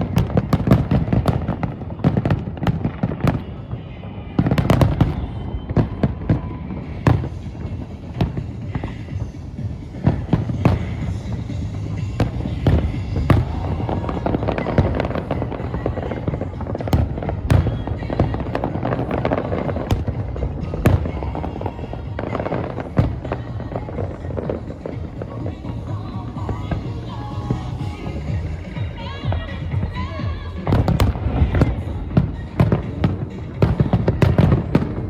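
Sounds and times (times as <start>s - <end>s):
fireworks bursting: 0.0s - 35.0s
music playing: 0.0s - 35.0s.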